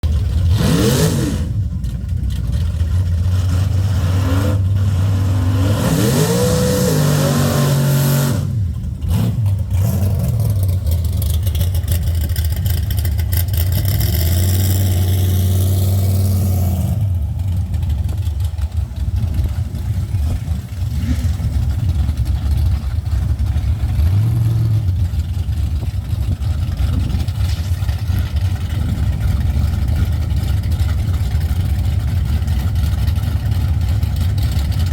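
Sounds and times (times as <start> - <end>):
truck engine revving: 0.0 - 34.9.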